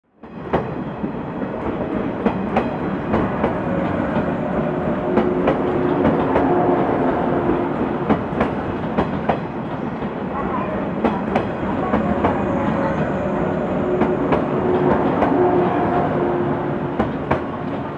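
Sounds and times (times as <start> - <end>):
steady train hum: 0.1 - 17.9.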